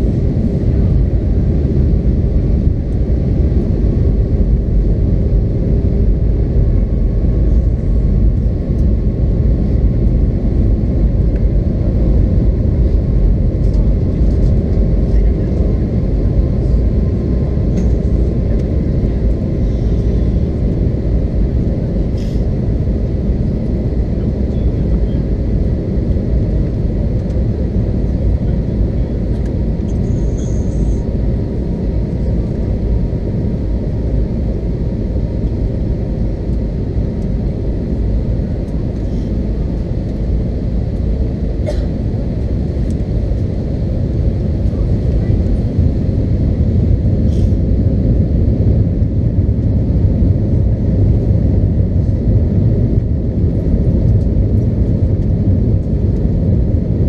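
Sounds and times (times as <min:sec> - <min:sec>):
jet engine and airflow rumble: 0:00.0 - 0:57.0.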